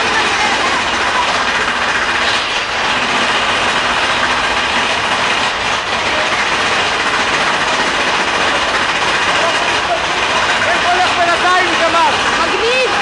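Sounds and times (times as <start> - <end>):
ride train rushing along track: 0.0 - 13.0.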